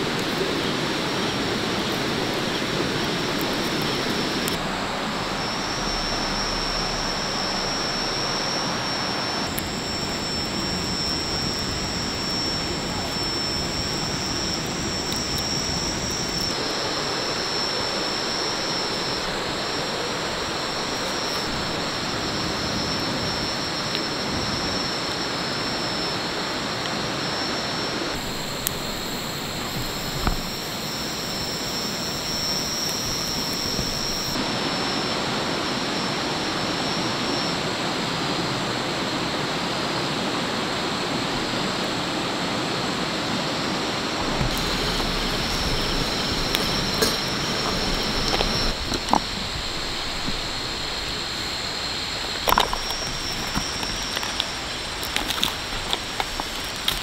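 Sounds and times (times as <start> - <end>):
insects trilling: 0.0 - 57.0
stream rushing: 0.0 - 57.0.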